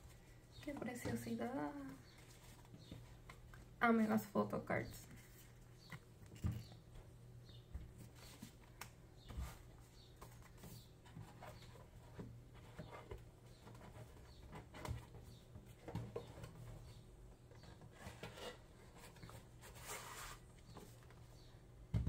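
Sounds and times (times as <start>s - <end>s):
rustling of cardboard and plastic: 0.0s - 7.1s, 7.7s - 21.7s.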